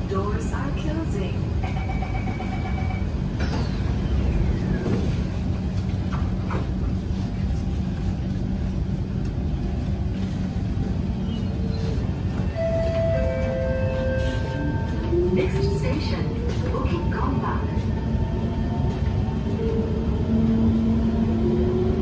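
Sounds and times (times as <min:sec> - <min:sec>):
metro car equipment humming: 0:00.0 - 0:22.0.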